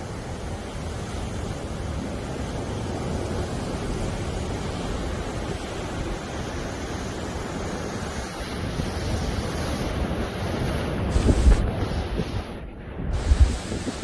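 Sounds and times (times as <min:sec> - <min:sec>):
rough sea surf breaking: 0:00.0 - 0:14.0
wind buffeting microphone: 0:00.0 - 0:14.0.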